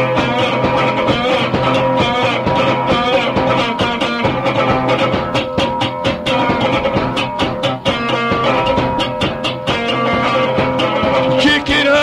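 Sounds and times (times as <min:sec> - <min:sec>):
electric guitar playing: 0:00.0 - 0:12.0
steady drum beat: 0:00.0 - 0:12.0.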